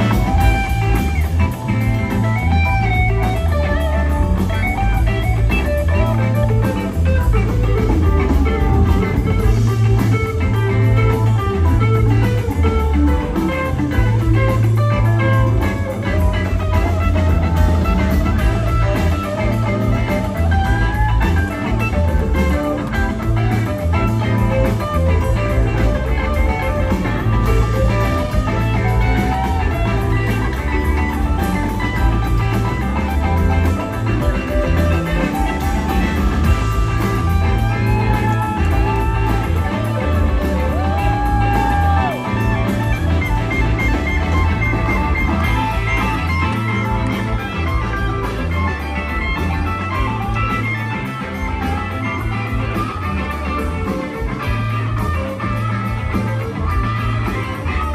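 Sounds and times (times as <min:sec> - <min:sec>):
bass guitar: 0:00.0 - 0:57.9
drums: 0:00.0 - 0:57.9
electric guitar lead: 0:00.0 - 0:57.9.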